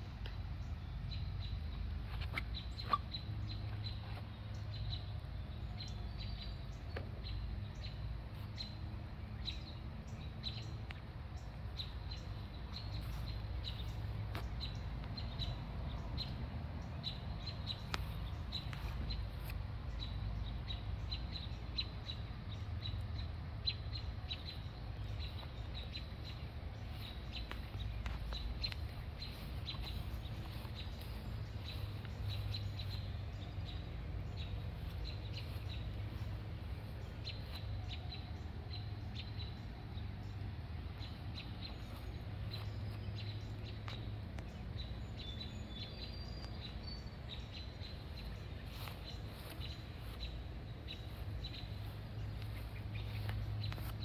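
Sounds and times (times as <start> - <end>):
birds chirping: 0.0 - 54.0
steady low rumble: 3.4 - 54.0.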